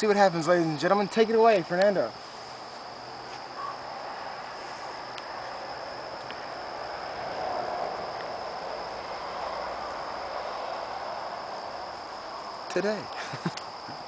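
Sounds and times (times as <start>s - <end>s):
insects chirring: 0.0s - 14.0s
low outdoor rush: 0.0s - 14.0s.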